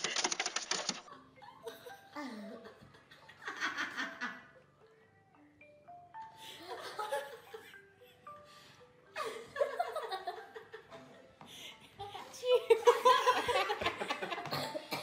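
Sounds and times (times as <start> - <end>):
light background music: 0.2 - 15.0.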